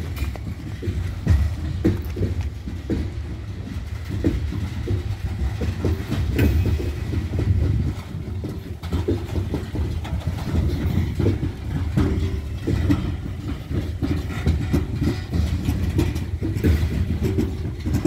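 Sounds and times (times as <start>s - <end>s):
clickety-clack over rail joints: 0.0s - 18.0s
train wheels rumbling on rail: 0.0s - 18.0s.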